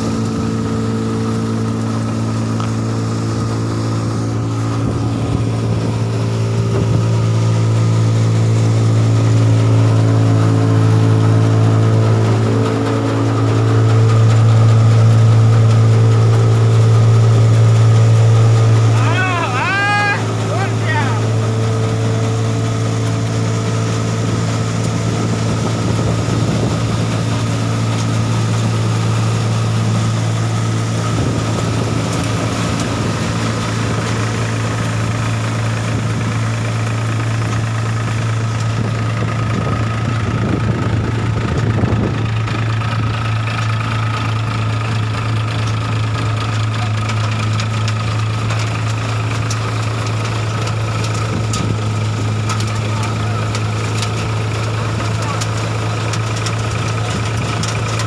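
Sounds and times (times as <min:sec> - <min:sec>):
threshing machine humming: 0:00.0 - 0:58.0.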